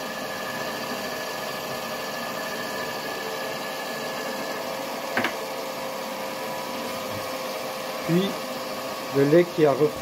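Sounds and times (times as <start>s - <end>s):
stand mixer motor running: 0.0s - 10.0s.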